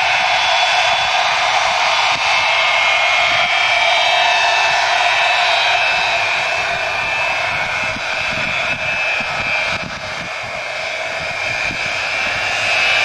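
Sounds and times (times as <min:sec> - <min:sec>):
jet engines roaring with high whine: 0:00.0 - 0:13.0.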